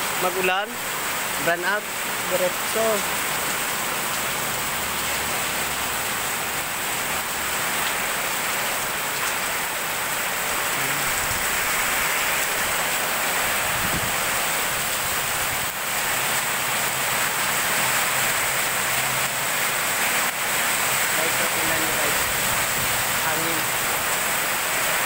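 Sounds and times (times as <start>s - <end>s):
heavy rain pounding street: 0.0s - 25.0s
water pouring off awning: 0.0s - 25.0s.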